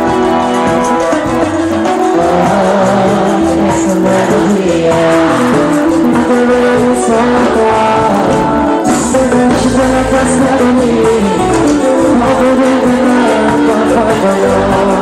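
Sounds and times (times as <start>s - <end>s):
held melody notes: 0.0s - 15.0s
live band playing: 0.0s - 15.0s.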